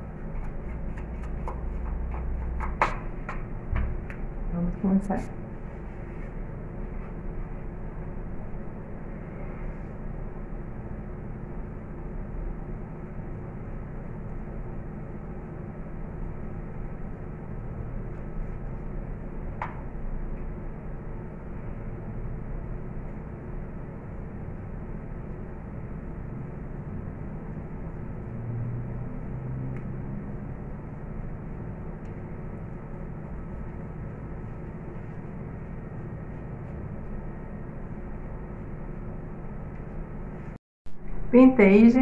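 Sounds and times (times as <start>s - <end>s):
machine hum and rumble: 0.0s - 42.0s.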